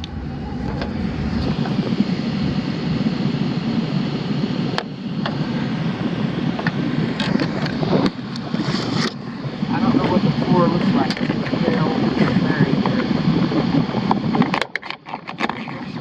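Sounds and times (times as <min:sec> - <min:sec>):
air handler blower running: 0:00.0 - 0:14.4.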